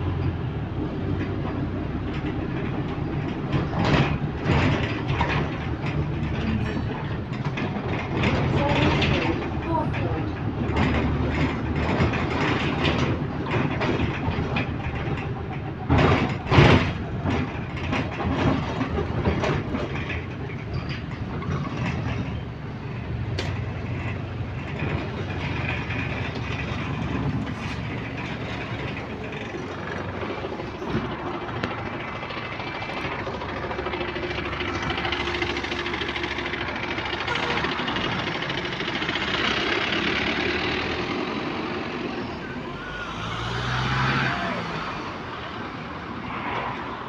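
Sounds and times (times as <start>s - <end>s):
bus engine and road rumble: 0.0s - 47.0s
rattles and clicks: 0.1s - 45.6s
clatter of knocks: 1.1s - 42.2s.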